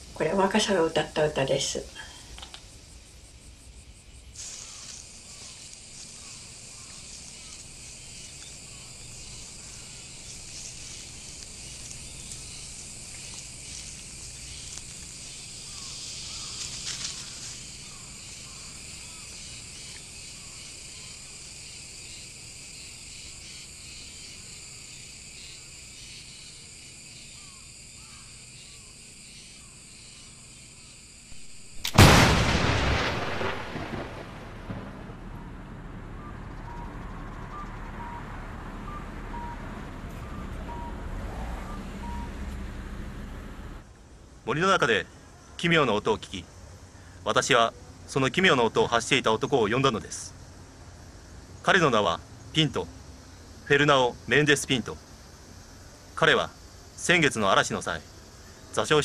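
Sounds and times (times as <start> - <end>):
insects buzzing high-pitched: 0.0 - 34.4, 36.2 - 42.9, 44.5 - 59.0.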